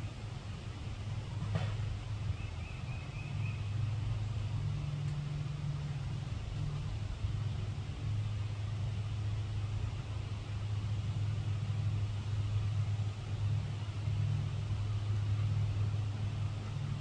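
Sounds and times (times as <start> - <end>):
faint hiss: 0.0 - 17.0
steady low rumble: 0.0 - 17.0.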